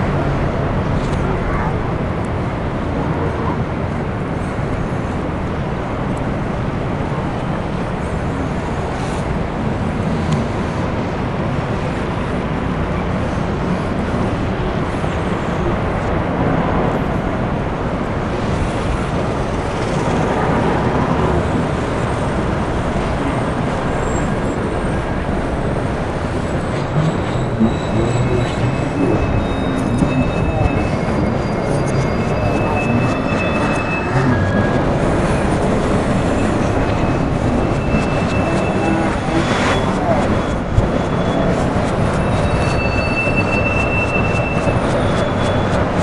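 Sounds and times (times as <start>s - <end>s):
city street rumble: 0.0s - 46.0s.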